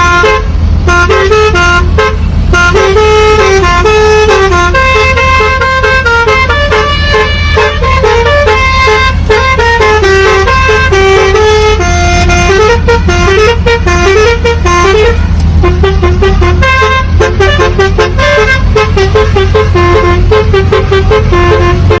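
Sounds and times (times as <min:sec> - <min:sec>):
low engine rumble: 0:00.0 - 0:22.0
musical bus horn melody: 0:00.0 - 0:22.0.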